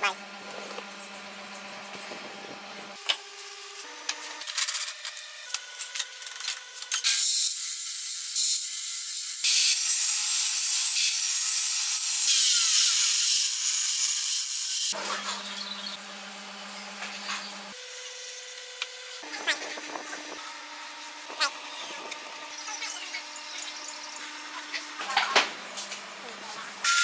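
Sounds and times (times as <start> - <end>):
table saw cutting wood: 0.0 - 26.2.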